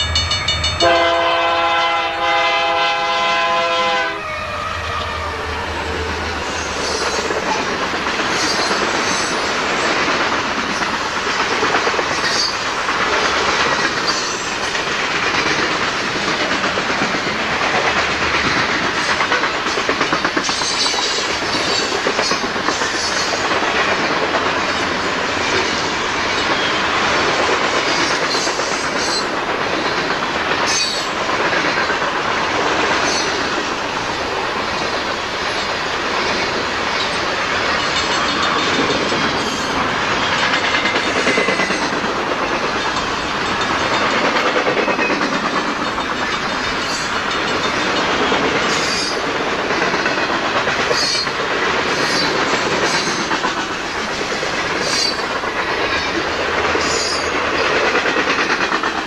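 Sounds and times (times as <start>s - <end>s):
freight train rumbling past: 0.0s - 59.0s
wheels clicking over rail joints: 6.0s - 59.0s.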